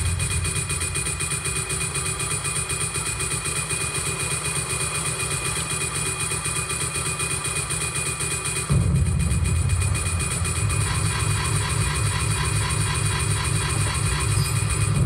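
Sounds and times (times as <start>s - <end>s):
fluttering industrial drone: 0.0s - 15.0s.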